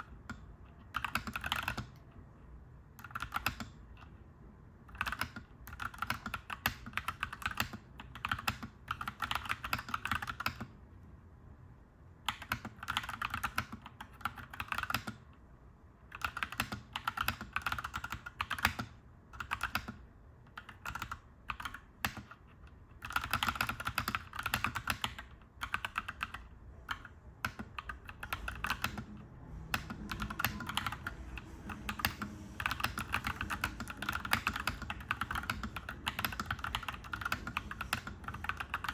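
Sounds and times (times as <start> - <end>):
mechanical keyboard typing: 0.0 - 2.1, 3.0 - 4.1, 4.8 - 10.7, 12.3 - 15.3, 16.1 - 38.9
low steady background hum: 0.0 - 38.9.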